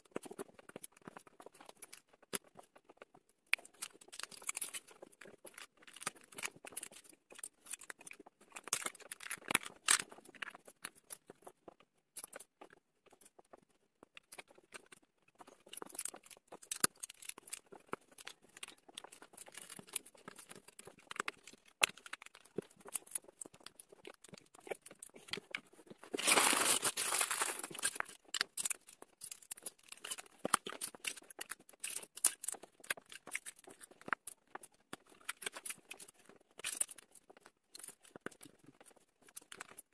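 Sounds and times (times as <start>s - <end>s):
plastic bricks clicking and rattling: 0.1s - 11.6s, 14.2s - 39.9s.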